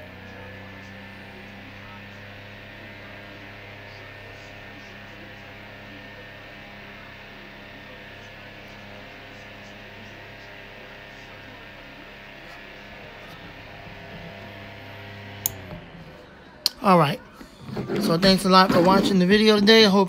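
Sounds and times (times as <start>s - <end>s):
desk fan motor humming: 0.0s - 20.0s.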